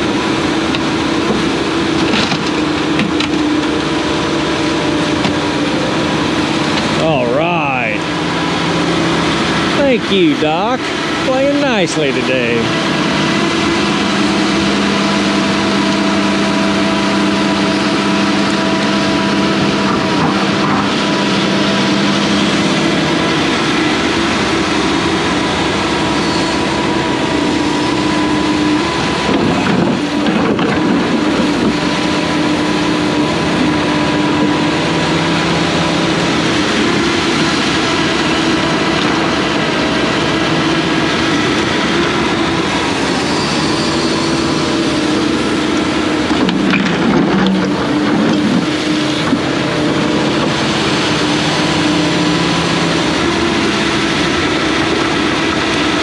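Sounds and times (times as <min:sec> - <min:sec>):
excavator diesel engine running: 0:00.0 - 0:56.0
hydraulic whine: 0:00.0 - 0:56.0.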